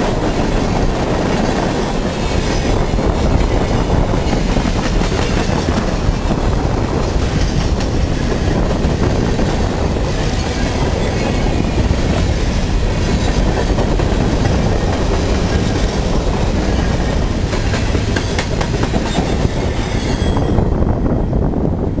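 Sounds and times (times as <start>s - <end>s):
sharp rail clicks: 0.0s - 20.6s
train wheels rumbling on rail: 0.0s - 22.0s.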